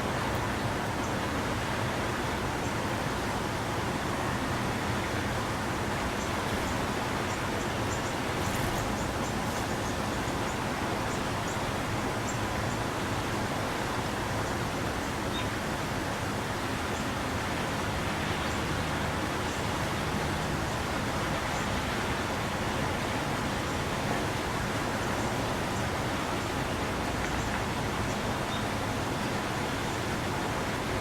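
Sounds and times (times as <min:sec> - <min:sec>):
rushing outdoor background noise: 0:00.0 - 0:31.0.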